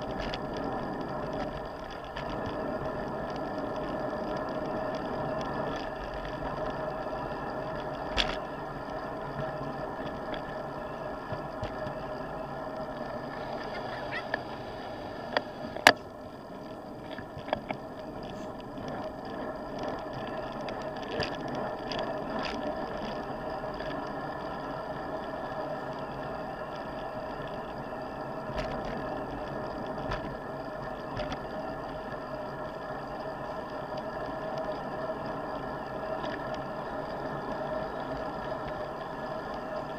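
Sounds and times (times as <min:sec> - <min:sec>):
bicycle tyres humming: 0:00.0 - 0:39.9
wind: 0:00.0 - 0:39.9.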